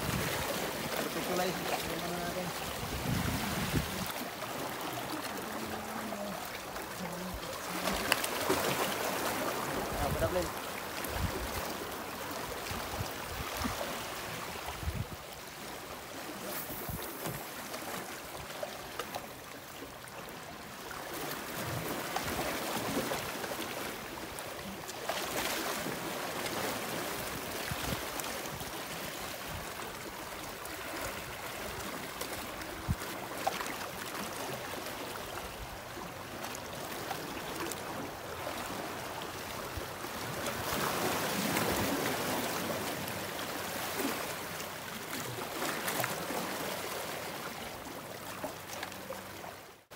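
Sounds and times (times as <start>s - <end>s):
sea waves washing on shore: 0.0s - 49.9s.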